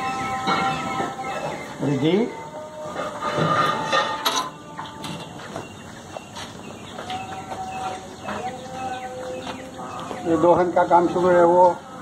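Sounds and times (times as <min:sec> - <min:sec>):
bird calls: 0:00.0 - 0:11.9
farmyard ambience: 0:00.0 - 0:12.0.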